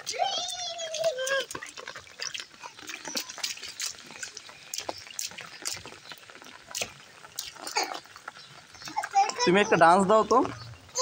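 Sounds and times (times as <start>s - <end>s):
bare feet splashing in puddles: 0.0s - 11.0s
rain falling: 0.0s - 11.0s.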